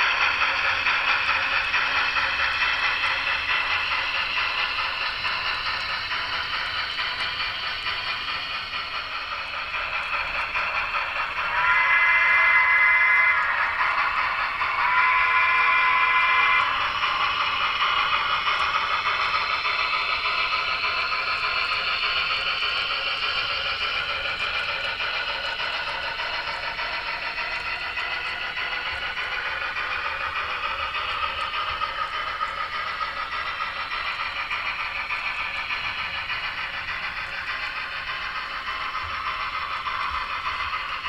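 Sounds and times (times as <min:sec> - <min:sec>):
model steam locomotive sounds: 0:00.0 - 0:41.0.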